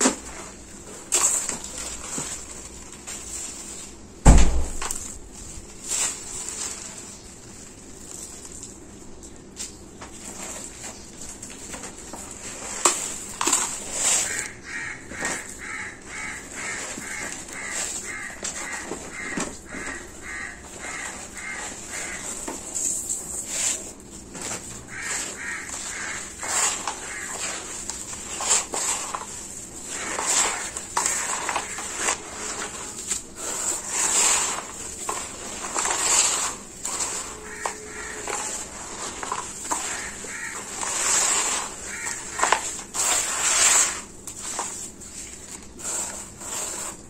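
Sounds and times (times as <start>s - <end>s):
hands crunching gritty mix: 0.0s - 47.0s.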